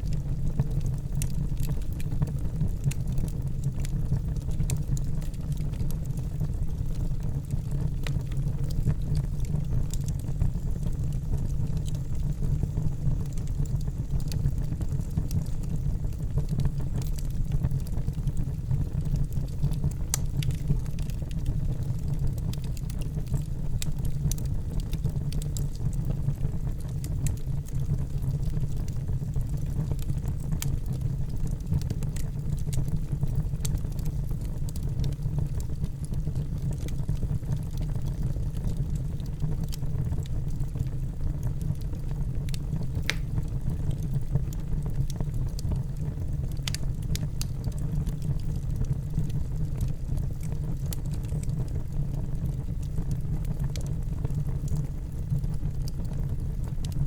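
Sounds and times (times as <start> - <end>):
fire burning: 0.0 - 57.0
fire crackling: 0.0 - 57.0.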